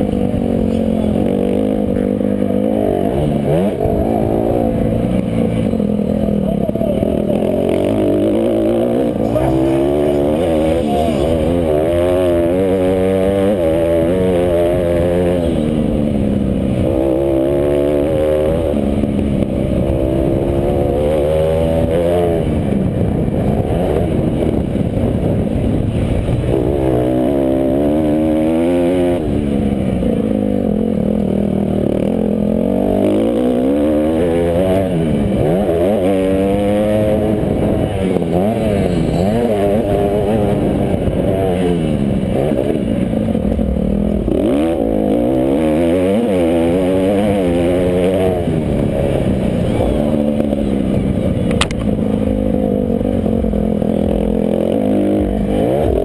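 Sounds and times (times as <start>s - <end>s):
motocross engines revving: 0.0s - 56.0s.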